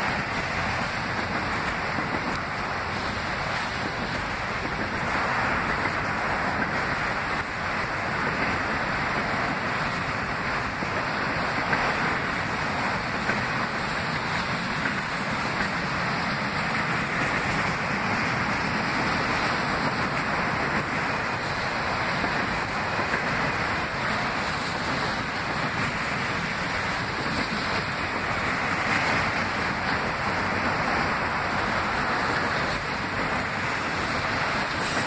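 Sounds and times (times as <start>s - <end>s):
steel wheels rushing on rail: 0.0s - 35.0s.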